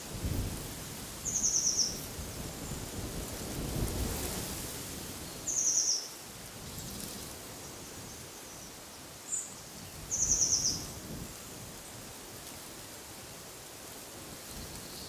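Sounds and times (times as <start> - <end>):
wind in trees: 0.0 - 15.0.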